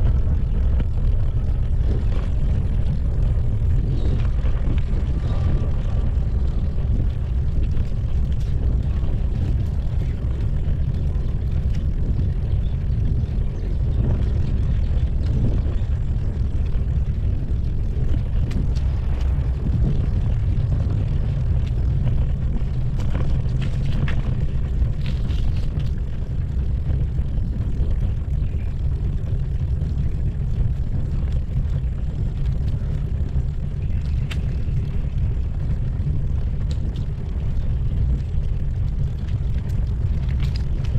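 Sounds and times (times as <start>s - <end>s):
bicycle tyres on paving blocks: 0.0s - 40.9s
light rattles and clicks: 0.0s - 40.9s
wind on microphone: 0.0s - 40.9s.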